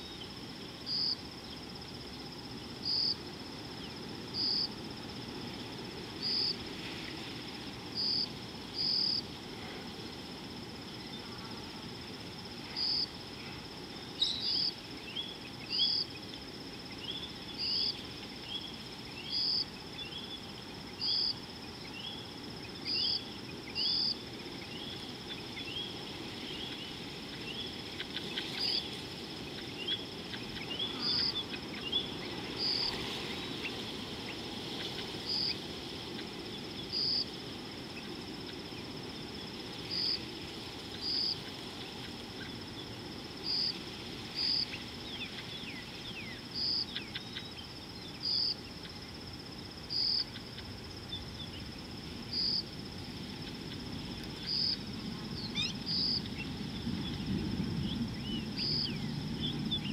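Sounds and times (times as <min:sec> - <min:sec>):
insect chirps: 0:00.0 - 0:59.9
insects trilling: 0:00.0 - 0:59.9
low background noise: 0:00.0 - 0:59.9.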